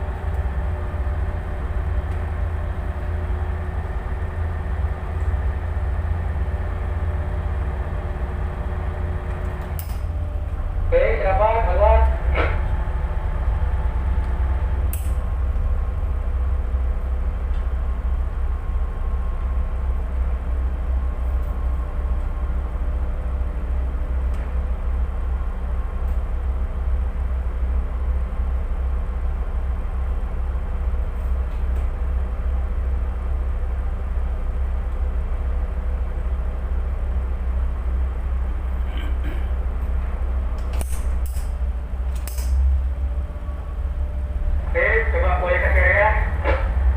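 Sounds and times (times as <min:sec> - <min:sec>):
boat engine rumbling: 0:00.0 - 0:46.9.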